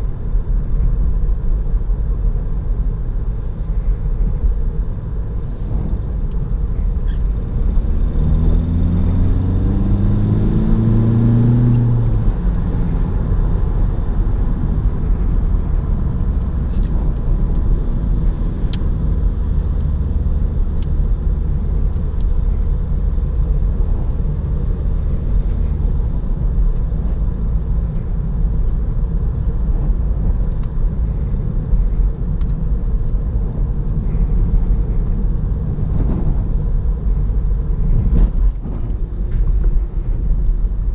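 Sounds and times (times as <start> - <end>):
road noise: 0.0 - 40.9
car diesel engine accelerating: 0.1 - 40.9.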